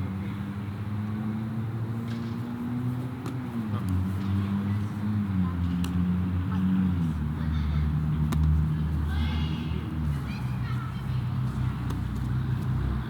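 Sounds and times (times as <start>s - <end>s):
vehicle engine humming: 1.7s - 13.0s.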